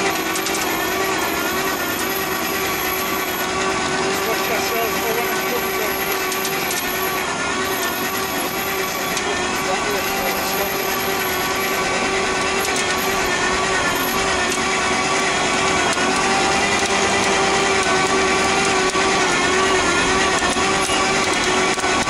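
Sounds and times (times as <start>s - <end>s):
cable winch motor humming: 0.0s - 22.0s.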